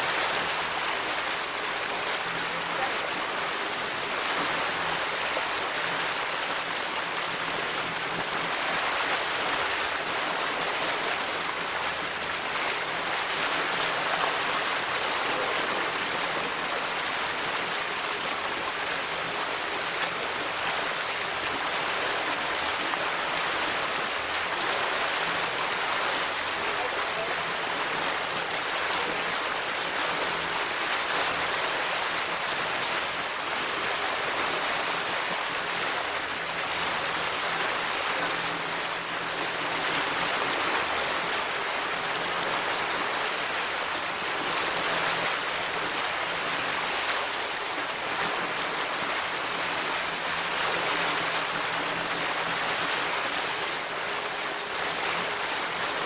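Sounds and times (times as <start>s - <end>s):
water rushing from motorboat: 0.0s - 56.0s.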